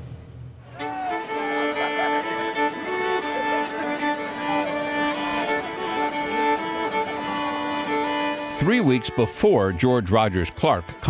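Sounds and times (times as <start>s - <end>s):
fiddle tune: 0.8s - 11.0s
held drone notes: 1.1s - 11.0s.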